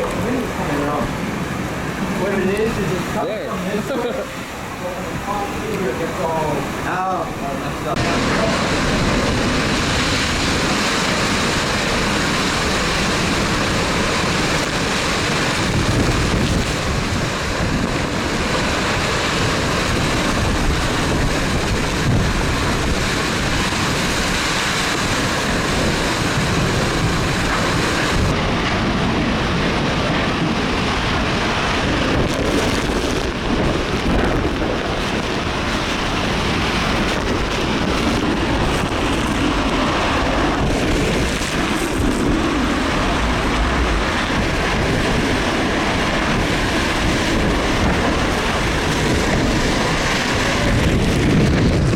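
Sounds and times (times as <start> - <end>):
heavy rain: 0.0 - 51.9
strong wind: 0.0 - 51.9.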